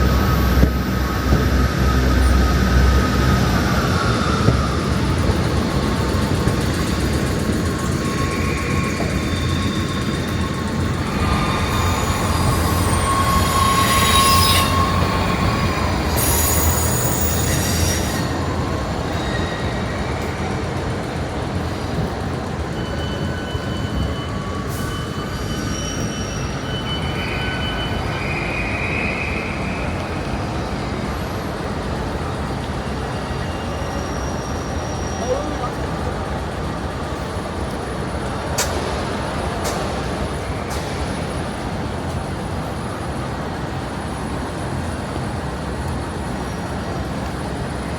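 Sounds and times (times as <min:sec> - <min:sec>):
train rumble: 0:00.0 - 0:47.9
train wheels squealing: 0:00.0 - 0:47.9.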